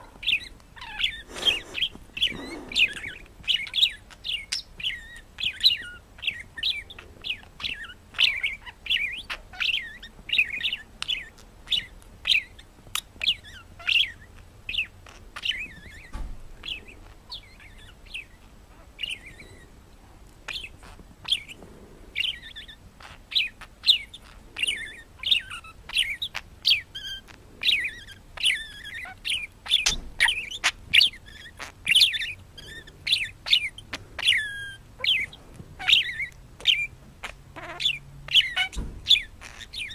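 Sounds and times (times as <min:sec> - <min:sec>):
parrot chirping: 0:00.0 - 0:39.9.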